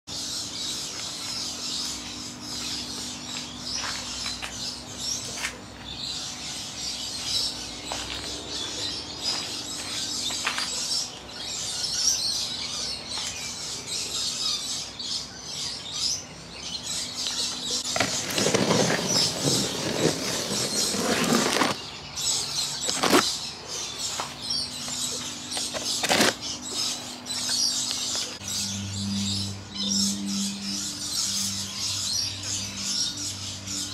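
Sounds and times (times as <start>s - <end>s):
air conditioner hum: 0.1s - 33.9s
birds chirping: 0.1s - 33.9s.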